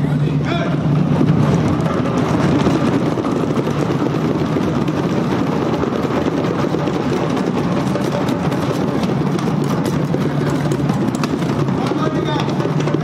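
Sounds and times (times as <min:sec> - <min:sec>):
drum circle playing hand drums: 0:01.0 - 0:13.0.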